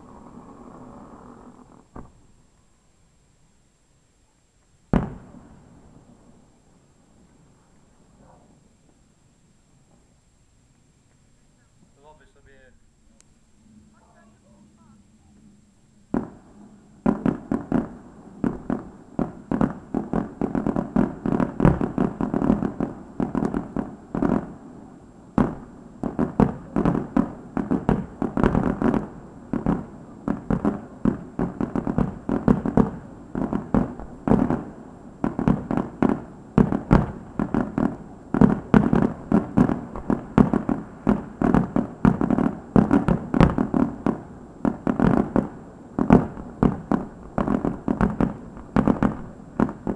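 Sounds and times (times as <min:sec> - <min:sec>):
fireworks bursting: 0:00.0 - 0:02.6, 0:04.9 - 0:09.1, 0:11.0 - 0:49.9.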